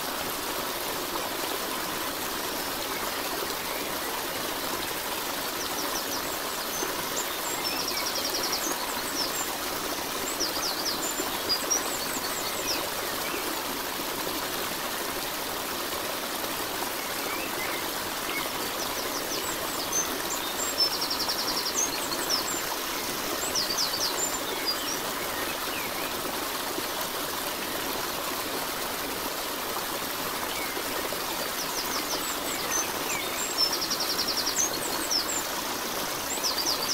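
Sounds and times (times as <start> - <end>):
stream flowing: 0.0 - 36.9.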